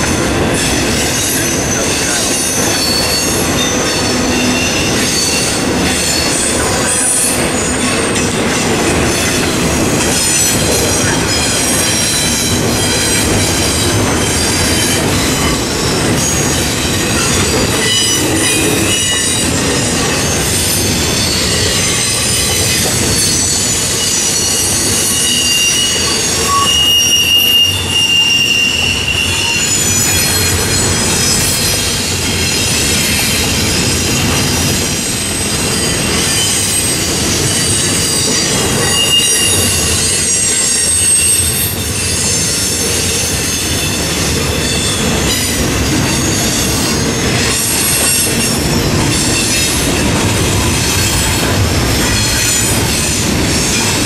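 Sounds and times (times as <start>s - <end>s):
freight train rumble and clatter: 0.0s - 54.0s
wheel squeal: 1.0s - 9.5s, 10.1s - 50.0s.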